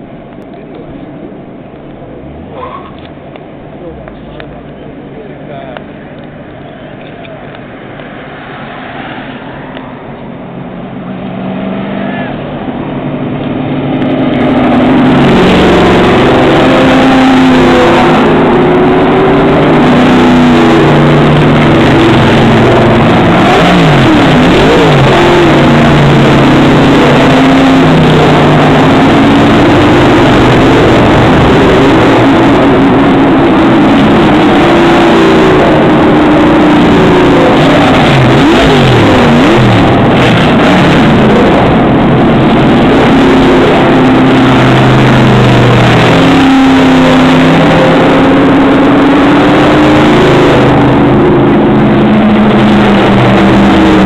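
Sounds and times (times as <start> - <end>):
race cars driving past: 0.3 - 54.0.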